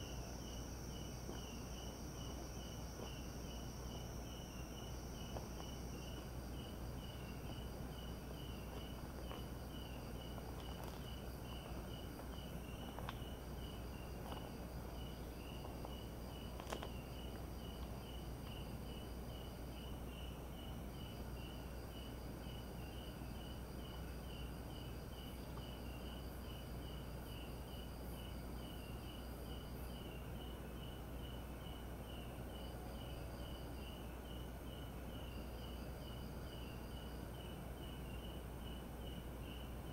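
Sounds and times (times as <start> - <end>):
insect pulsing trill: 0.0 - 32.3
high-pitched insect song: 0.0 - 39.9.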